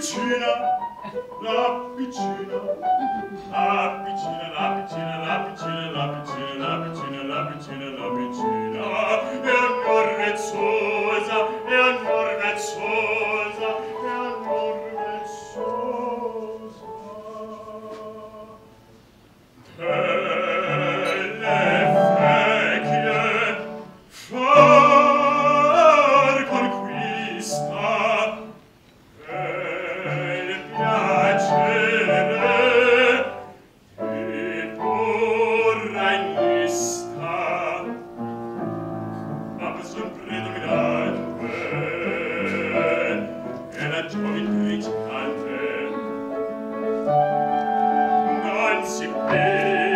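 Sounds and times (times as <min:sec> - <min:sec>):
operatic singing: 0:00.0 - 0:18.8, 0:19.7 - 0:28.6, 0:29.2 - 0:38.3, 0:39.4 - 0:49.9
piano accompaniment: 0:00.0 - 0:19.0, 0:19.6 - 0:49.9.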